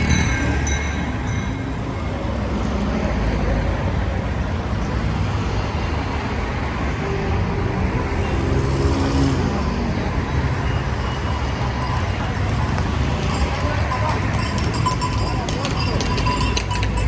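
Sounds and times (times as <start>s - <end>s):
car engines rumbling: 0.0s - 17.0s
tyres passing close by: 0.0s - 17.0s.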